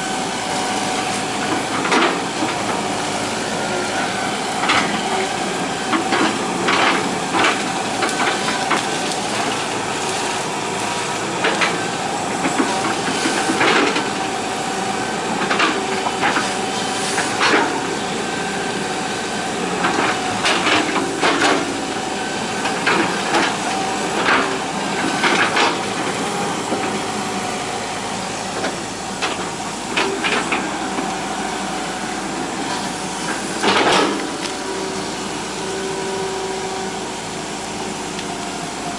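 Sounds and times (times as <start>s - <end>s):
excavator engine and hydraulics whine: 0.0s - 38.9s.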